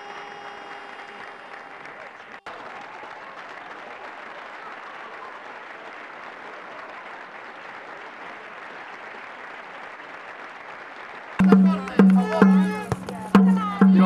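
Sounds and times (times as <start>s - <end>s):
applause: 0.0s - 14.0s.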